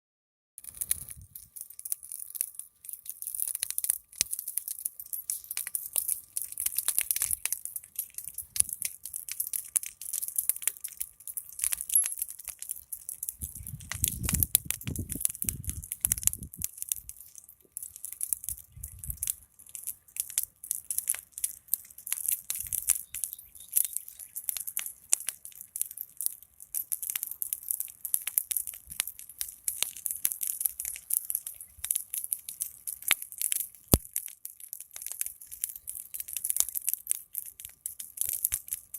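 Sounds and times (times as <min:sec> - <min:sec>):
large fire crackling: 0:00.6 - 0:38.9.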